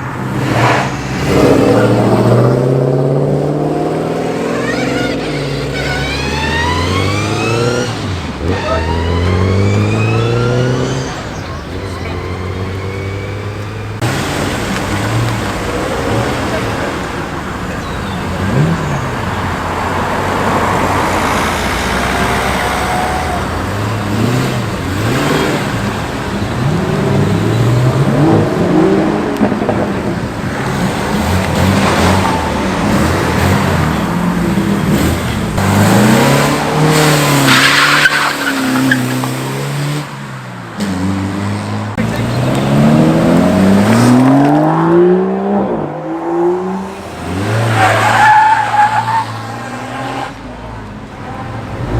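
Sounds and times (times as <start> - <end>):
cars accelerating past: 0.0 - 51.9.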